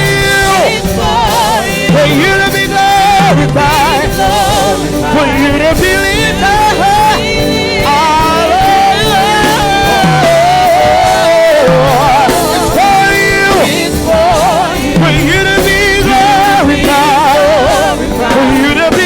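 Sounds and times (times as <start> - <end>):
full band accompaniment: 0.0 - 19.0
person singing gospel: 0.0 - 19.0.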